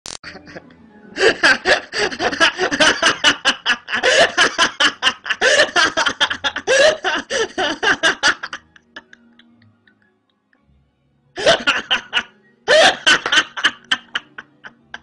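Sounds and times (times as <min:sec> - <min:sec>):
woman laughing hard: 0:00.2 - 0:09.9, 0:11.4 - 0:15.0.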